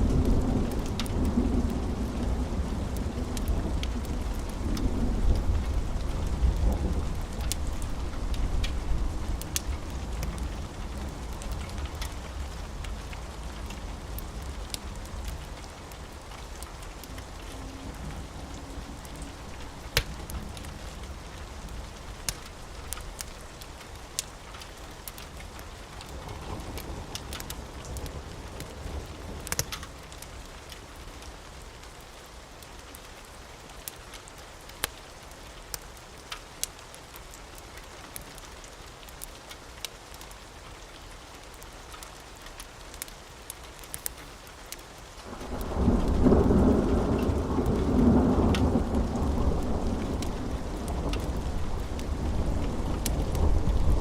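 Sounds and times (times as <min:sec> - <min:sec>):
steady rain: 0:00.0 - 0:54.0
wood fire crackling and popping: 0:00.1 - 0:17.6, 0:18.6 - 0:30.8, 0:33.8 - 0:40.4, 0:41.3 - 0:54.0.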